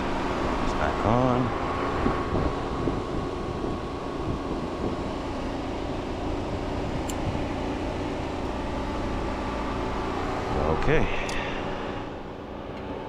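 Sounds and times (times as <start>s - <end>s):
radiator cooling fan running: 0.0s - 13.0s.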